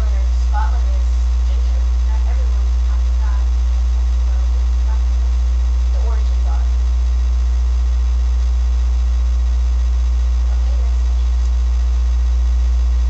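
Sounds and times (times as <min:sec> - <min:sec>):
loud low electrical hum: 0:00.0 - 0:13.0.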